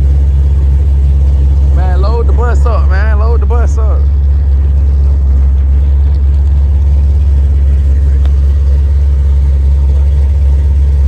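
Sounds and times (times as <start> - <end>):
vehicle rumble from inside cabin: 0.0 - 11.0.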